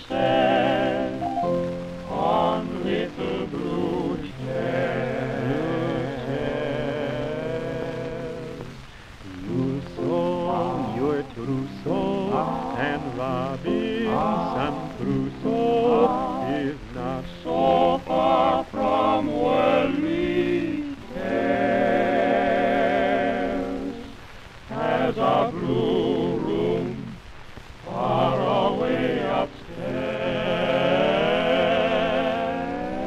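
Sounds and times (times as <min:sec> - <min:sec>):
male vocal quartet singing harmony: 0:00.0 - 0:27.2, 0:27.8 - 0:33.0
piano: 0:00.0 - 0:33.0
record surface noise: 0:00.0 - 0:33.0.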